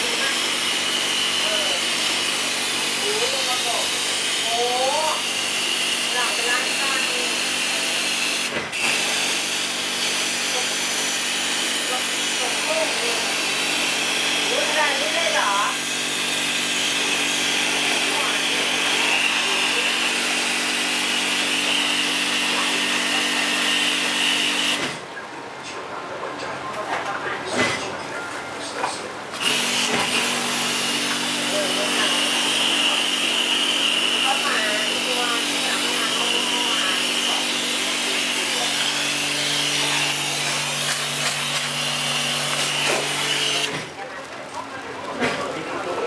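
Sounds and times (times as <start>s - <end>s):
water jet hissing: 0.0s - 25.0s, 29.4s - 43.9s
water pump motor hum: 0.0s - 25.0s, 29.3s - 44.9s.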